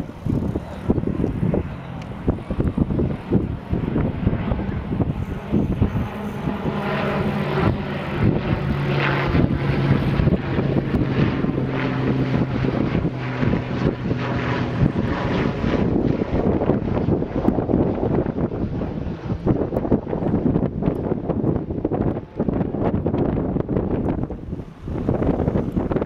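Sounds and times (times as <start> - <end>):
engine running with low drone: 0.0 - 26.0
wind buffeting microphone: 0.0 - 26.0.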